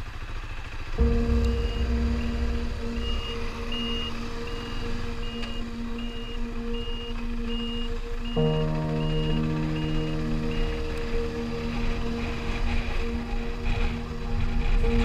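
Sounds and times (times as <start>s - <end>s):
engine and traffic rumble: 0.0s - 15.0s
deeper engine tone: 0.6s - 15.0s
reversing alarm beeping: 1.0s - 15.0s
steady hum: 1.0s - 15.0s.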